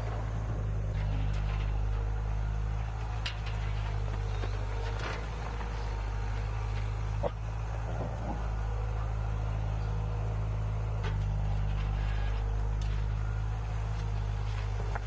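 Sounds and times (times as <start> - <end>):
heavy machine engine droning: 0.0 - 15.0.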